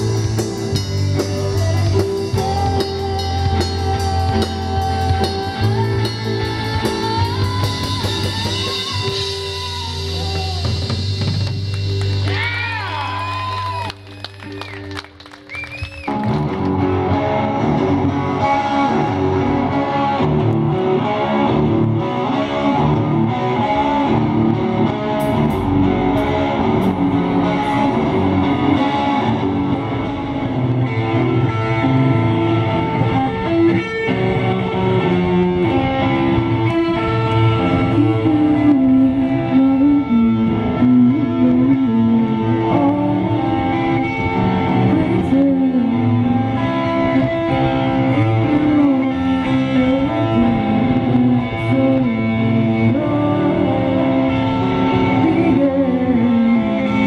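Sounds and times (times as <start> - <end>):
bass guitar: 0.0 - 57.0
drums: 0.0 - 57.0
electric guitars: 0.0 - 57.0.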